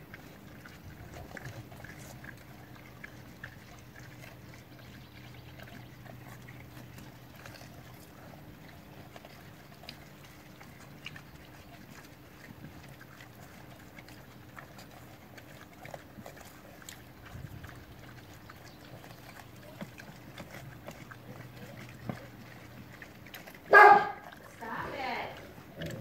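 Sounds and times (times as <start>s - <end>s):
animals crunching and chewing: 0.0s - 26.0s.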